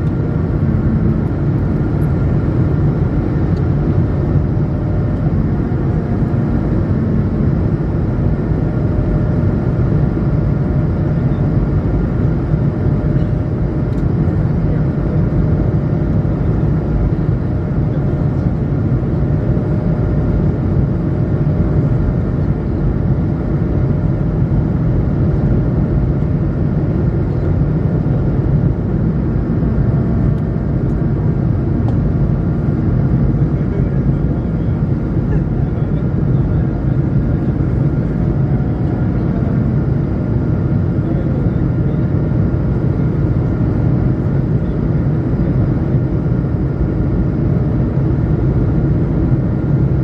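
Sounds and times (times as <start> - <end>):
airliner cabin engine rumble: 0.0 - 50.0.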